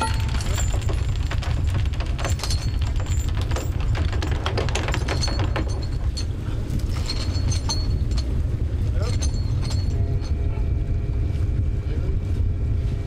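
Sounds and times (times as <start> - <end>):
steel chains rattling and clinking: 0.0 - 10.5
boat engine rumble: 0.0 - 13.0.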